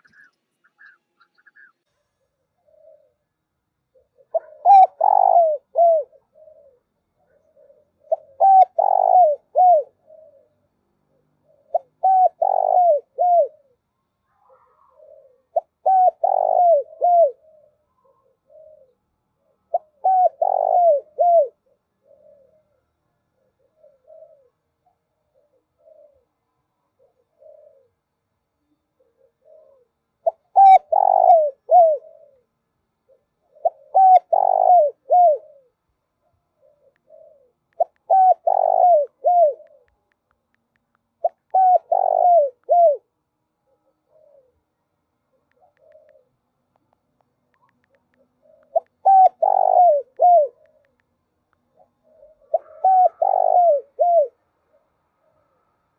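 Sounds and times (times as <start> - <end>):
dove cooing: 0.0 - 40.0, 41.1 - 46.8, 47.4 - 51.0, 51.6 - 55.7.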